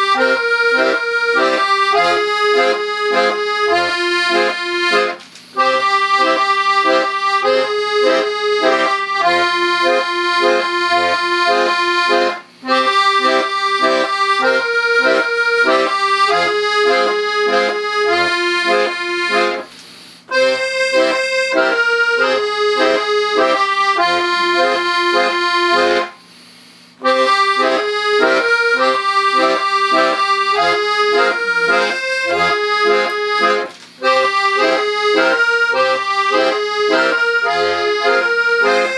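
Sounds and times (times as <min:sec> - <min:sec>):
accordion playing folk tune: 0:00.0 - 0:38.9.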